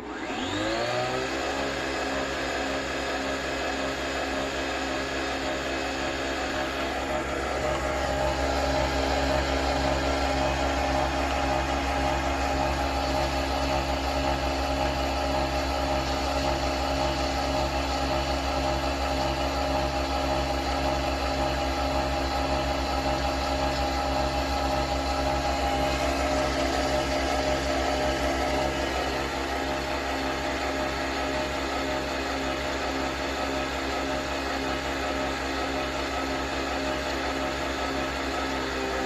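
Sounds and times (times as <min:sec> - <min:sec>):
coffee machine motor hum: 0:00.0 - 0:39.0.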